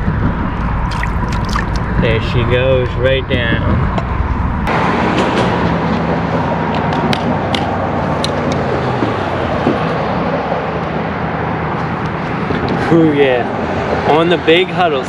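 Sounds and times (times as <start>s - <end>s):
traffic rumbling over bridge: 0.0s - 15.0s.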